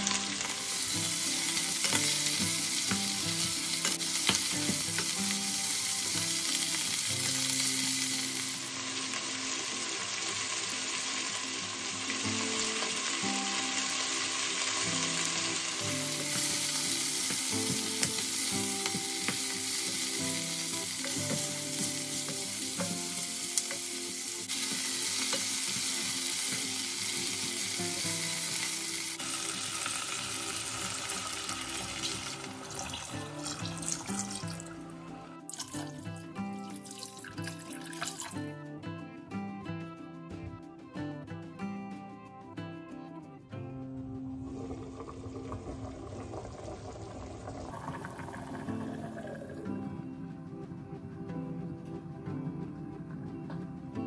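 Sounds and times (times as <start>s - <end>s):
food sizzling in oil: 0.0s - 38.4s, 44.4s - 49.6s.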